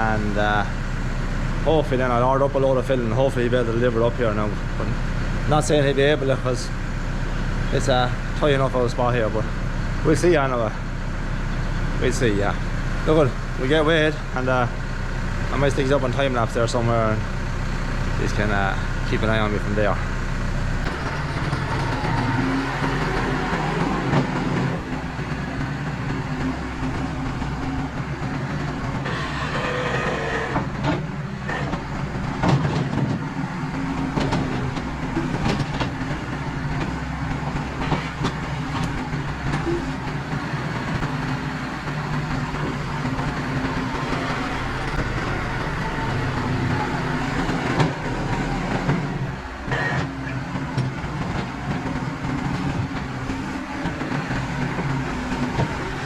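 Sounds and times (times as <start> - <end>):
loader clanks and scrapes: 0.0 - 56.0
tractor engine running: 0.0 - 56.0.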